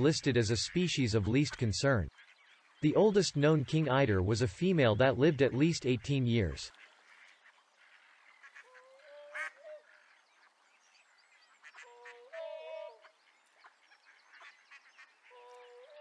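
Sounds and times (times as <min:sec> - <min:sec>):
ducks calling faintly: 0:00.0 - 0:16.0.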